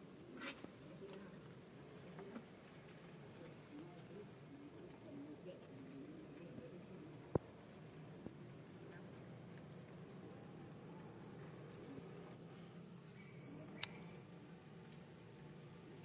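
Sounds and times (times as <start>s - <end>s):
high whine of insects: 0.0s - 16.0s
insect chirping: 0.0s - 16.0s.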